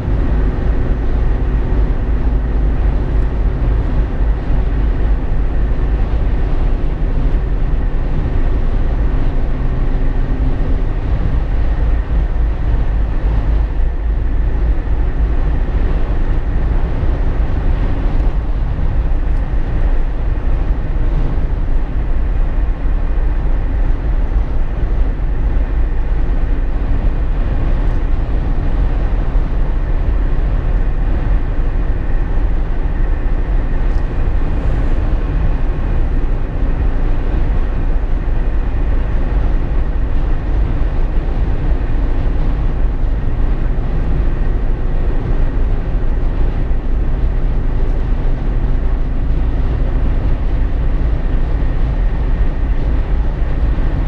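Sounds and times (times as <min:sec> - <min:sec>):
engine and tyre rumble: 0:00.0 - 0:54.0
wind noise: 0:00.0 - 0:54.0.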